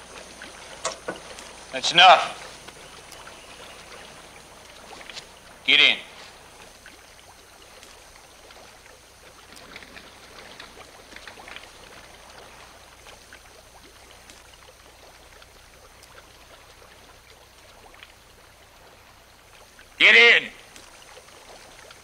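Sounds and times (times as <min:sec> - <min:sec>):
water boiling with bubbling hiss: 0:00.0 - 0:20.0, 0:20.6 - 0:22.0.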